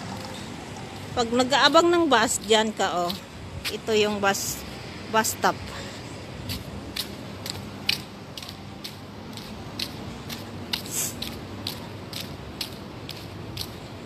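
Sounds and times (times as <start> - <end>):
footsteps on pavement: 0.2 - 4.8, 5.6 - 14.0.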